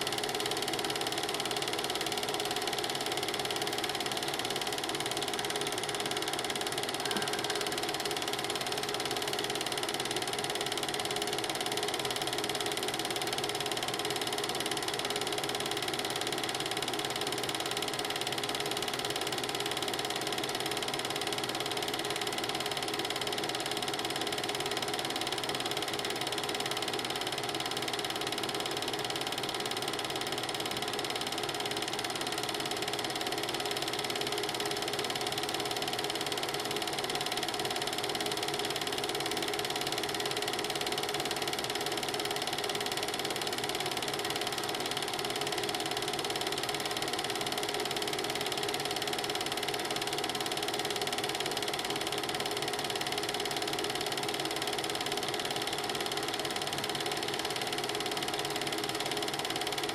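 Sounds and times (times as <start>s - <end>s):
film projector running: 0.0s - 59.9s.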